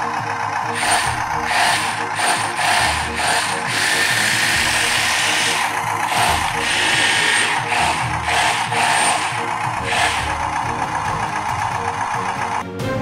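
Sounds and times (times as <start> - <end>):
electric motors whining: 0.0 - 12.6.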